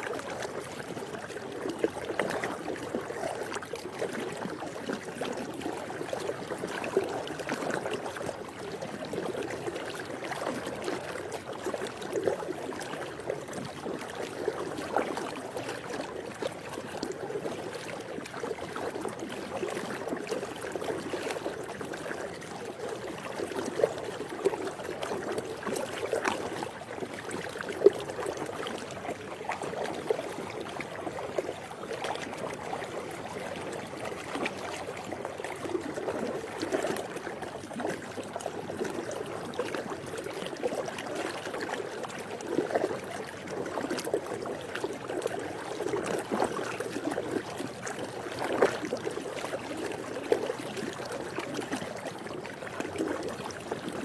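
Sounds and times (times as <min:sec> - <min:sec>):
pool water lapping and sloshing: 0:00.0 - 0:54.0
small water splashes: 0:00.0 - 0:54.0.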